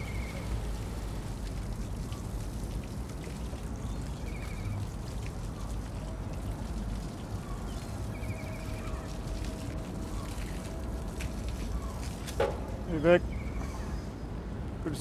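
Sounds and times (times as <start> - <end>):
trickling water: 0.0 - 15.0.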